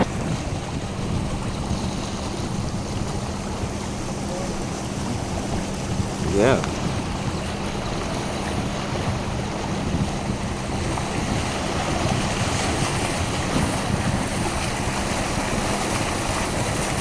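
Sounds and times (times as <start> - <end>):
water rushing around car: 0.0 - 17.0.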